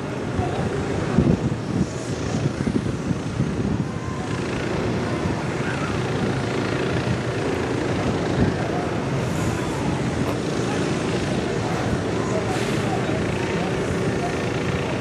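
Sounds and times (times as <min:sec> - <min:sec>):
tugboat engine rumble: 0:00.2 - 0:15.0.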